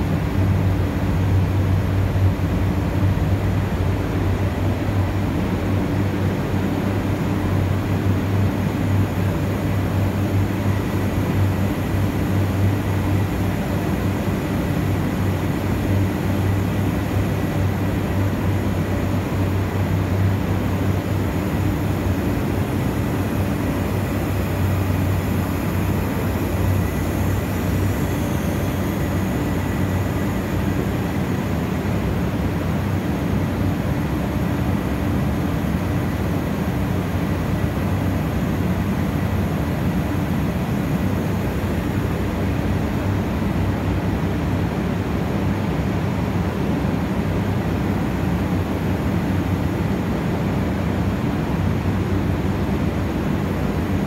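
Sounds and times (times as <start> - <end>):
air compressors running: 0.0 - 54.0.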